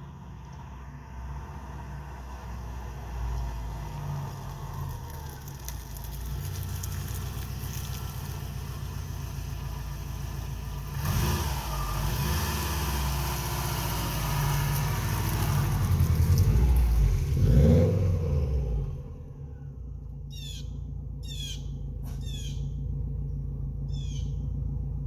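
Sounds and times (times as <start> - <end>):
turbocharged car engine and exhaust: 0.0 - 25.0.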